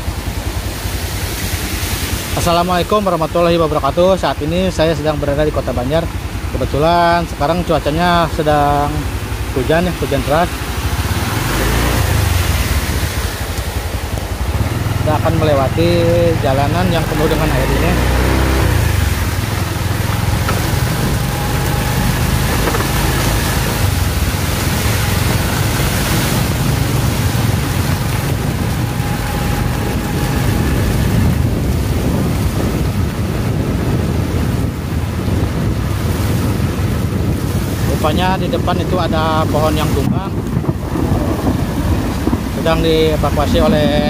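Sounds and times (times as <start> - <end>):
low engine rumble: 0.0 - 36.3, 36.9 - 44.0
heavy rain: 0.0 - 38.0, 38.6 - 44.0
water spraying from tyres: 0.0 - 44.0.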